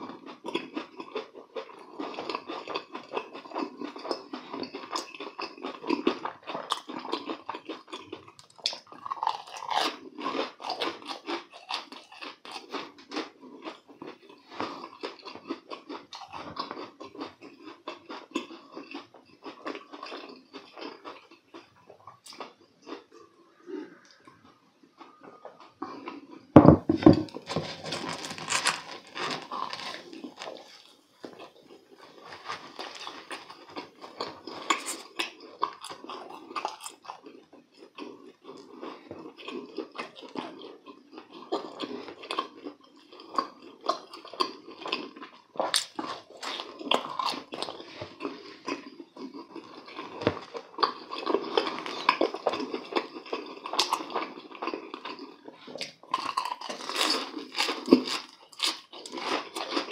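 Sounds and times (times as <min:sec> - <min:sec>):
crunchy chewing and biting: 0:00.0 - 0:59.9.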